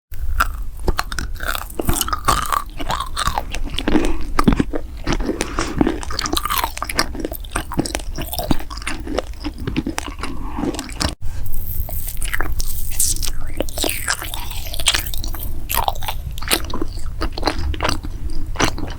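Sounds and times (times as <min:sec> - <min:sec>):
person chewing crunchy food: 0:00.2 - 0:18.9
wet mouth sounds: 0:00.2 - 0:18.9.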